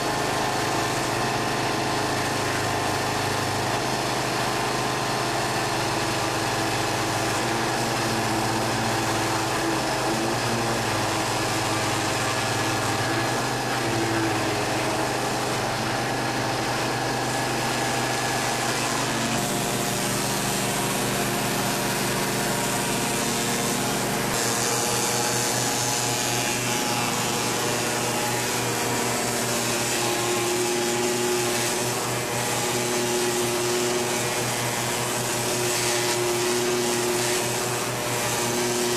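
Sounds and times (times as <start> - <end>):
pump motor humming: 0.0 - 38.9.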